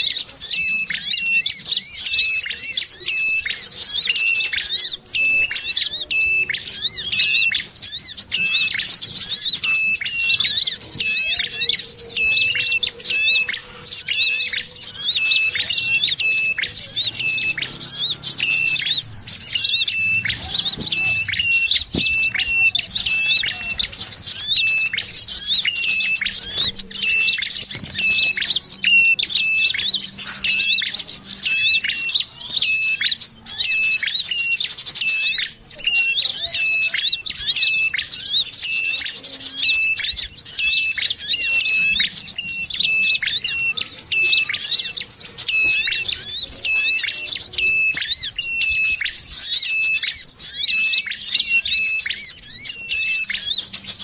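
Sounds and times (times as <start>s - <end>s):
birds twittering: 0.0s - 54.0s.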